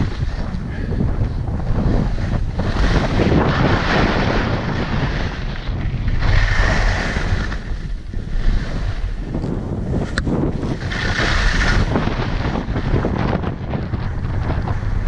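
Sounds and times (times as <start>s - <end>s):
skis scraping over snow: 0.0s - 13.3s
wind rumbling on microphone: 0.0s - 15.0s.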